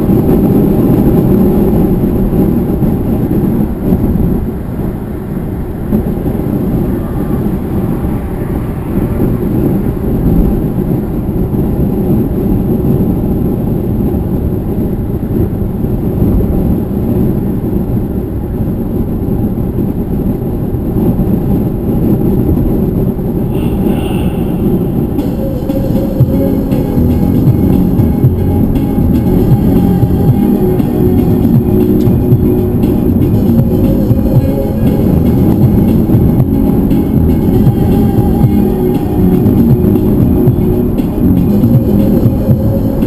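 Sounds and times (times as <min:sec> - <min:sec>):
car cabin road and engine rumble: 0:00.0 - 0:43.0.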